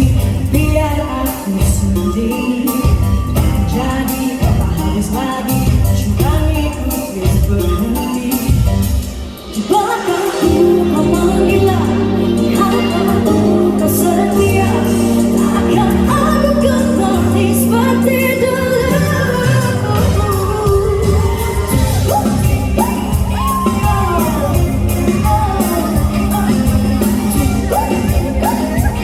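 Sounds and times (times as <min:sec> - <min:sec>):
band playing: 0:00.0 - 0:29.0
woman singing pop ballad: 0:00.0 - 0:29.0.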